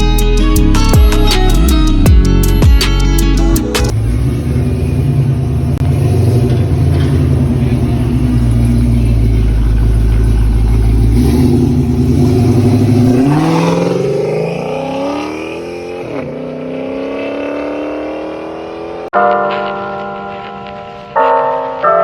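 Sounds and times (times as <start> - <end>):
car engine accelerating: 0.0 - 19.2.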